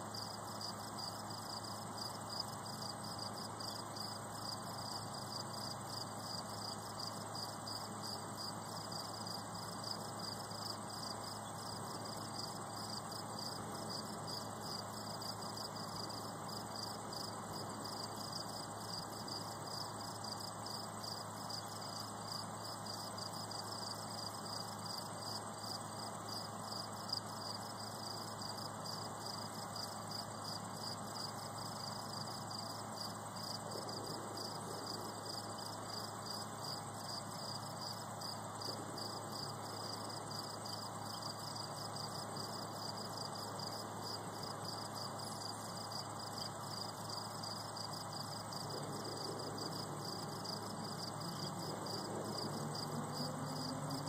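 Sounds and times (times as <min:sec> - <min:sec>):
crickets chirping: 0:00.0 - 0:54.0
high insect drone: 0:00.0 - 0:54.0.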